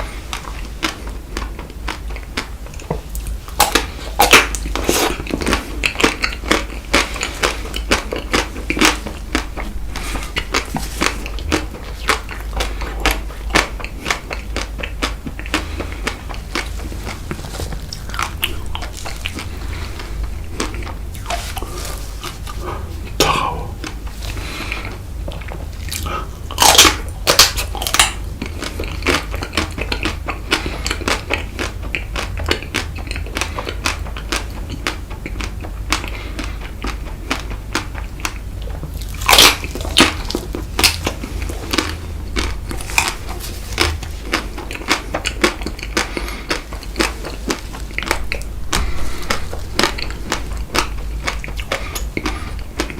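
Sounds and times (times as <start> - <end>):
crunching and chewing ice cream: 0.0 - 52.9.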